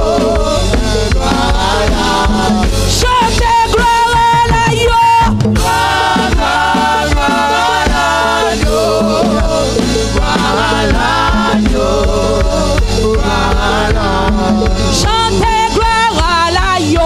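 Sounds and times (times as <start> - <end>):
band accompaniment with bass and drums: 0.0 - 17.0
gospel singers singing together: 0.0 - 17.0.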